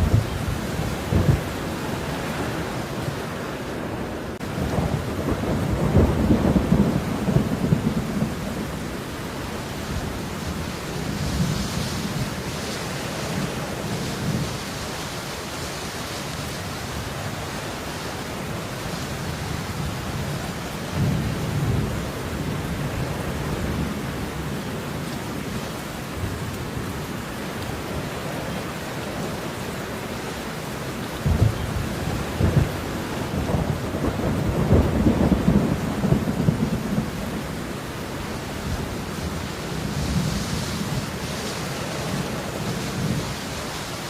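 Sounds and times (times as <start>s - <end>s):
rain hissing: 0.0s - 44.0s.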